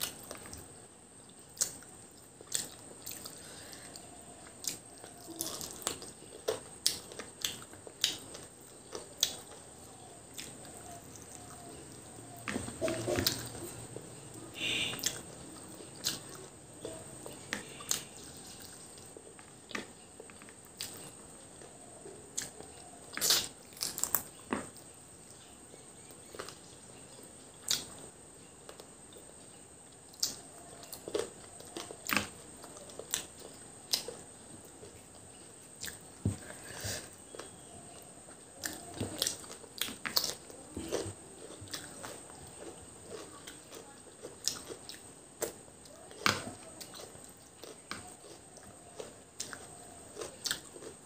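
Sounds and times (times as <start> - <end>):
faint high-pitched hiss: 0.0 - 51.0
woman chewing food: 0.0 - 51.0.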